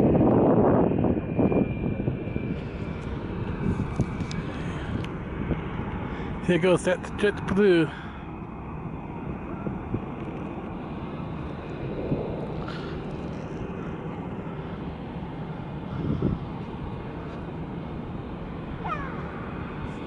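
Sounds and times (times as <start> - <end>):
distant jet engines: 0.0 - 20.0.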